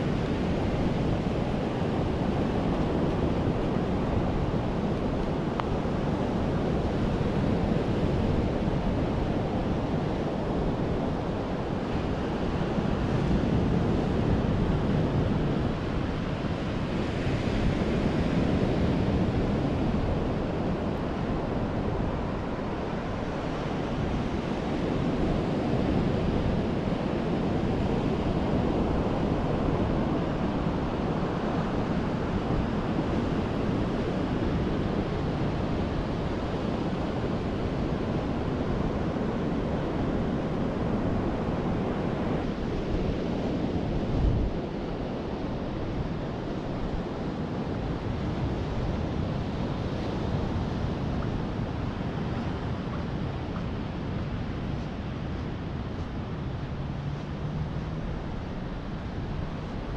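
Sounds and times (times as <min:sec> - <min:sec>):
ocean surf washing onto beach: 0:00.0 - 0:59.9
wind rumbling on microphone: 0:00.0 - 0:59.9.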